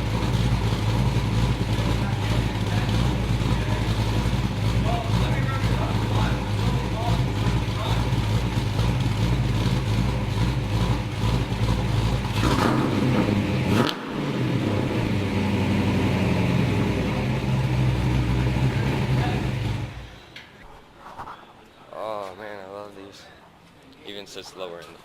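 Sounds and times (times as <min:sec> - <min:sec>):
vee eight engine exhaust note: 0:00.0 - 0:20.2.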